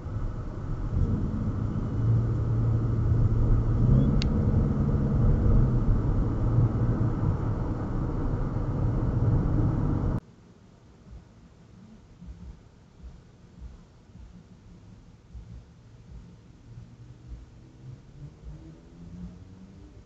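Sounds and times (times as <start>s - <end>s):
car engine and tyre rumble: 0.0s - 12.9s, 13.9s - 20.0s.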